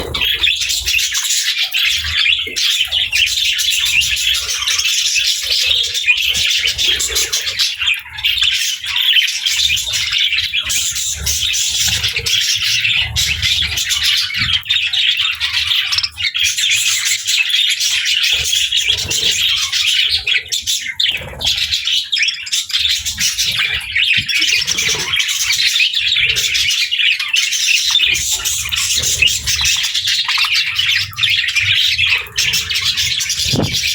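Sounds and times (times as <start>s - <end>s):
small birds chirping and chattering: 0.0s - 33.9s.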